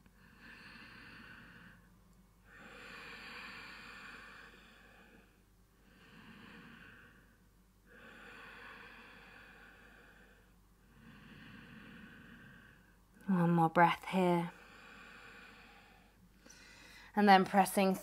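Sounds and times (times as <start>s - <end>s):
slow deep breathing: 0.0s - 13.2s, 14.5s - 17.2s.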